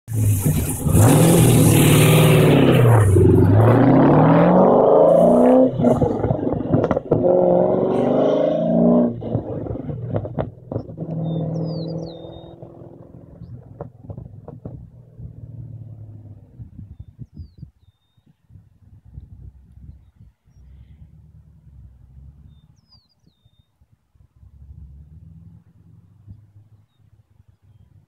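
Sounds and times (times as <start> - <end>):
car engine accelerating: 0.1 - 17.1, 19.1 - 23.0, 24.2 - 28.0.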